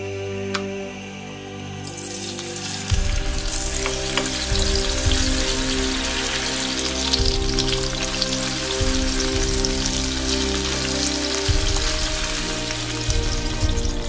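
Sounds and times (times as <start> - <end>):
background music: 0.0 - 14.0
meat sizzling in a frying pan: 1.9 - 14.0.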